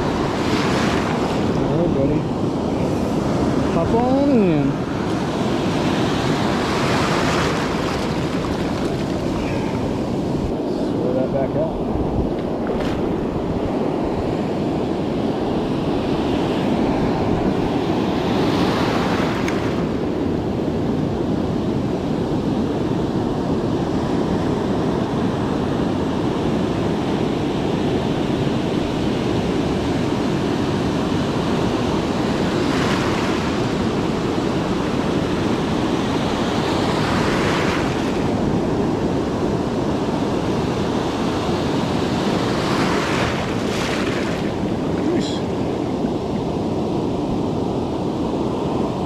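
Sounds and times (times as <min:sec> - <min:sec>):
ocean surf breaking on beach: 0:00.0 - 0:49.0.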